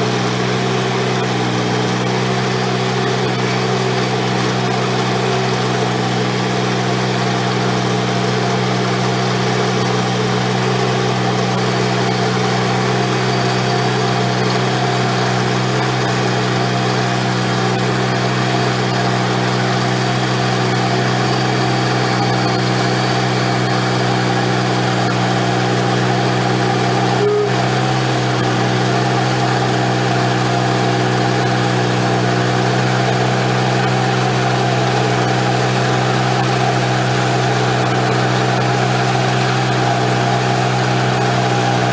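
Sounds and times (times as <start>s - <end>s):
bandsaw cutting log: 0.0s - 41.9s.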